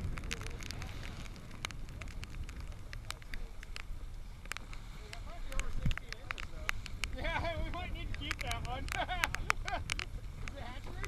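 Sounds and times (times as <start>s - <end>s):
sharp ticks and crackles: 0.0s - 11.0s
water against boat: 0.0s - 11.0s
wind rumbling: 0.0s - 11.0s.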